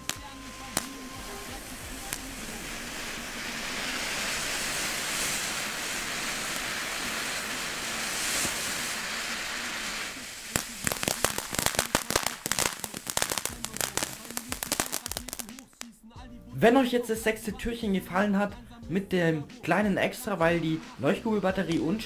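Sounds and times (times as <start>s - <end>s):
ground firework hissing and crackling: 0.0s - 16.0s, 19.0s - 22.0s.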